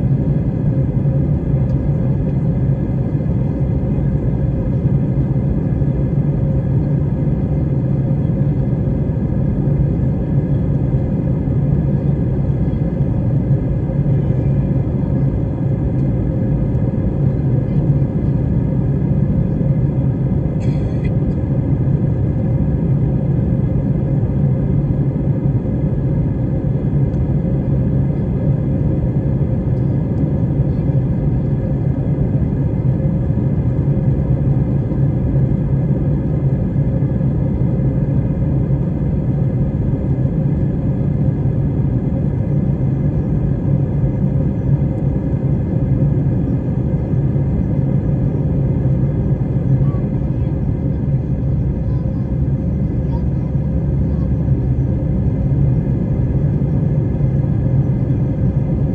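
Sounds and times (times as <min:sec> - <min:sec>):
jet engines rumbling: 0:02.5 - 0:58.9.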